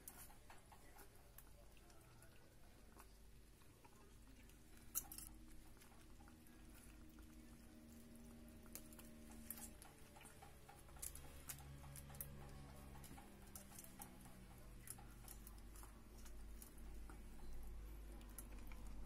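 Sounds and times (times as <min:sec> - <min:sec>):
ferret lapping water: 0:00.0 - 0:19.0.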